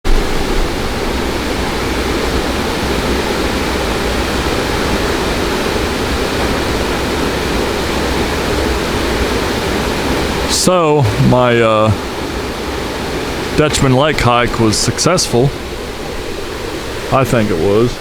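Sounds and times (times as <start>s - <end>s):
waterfall rushing: 0.1s - 18.0s.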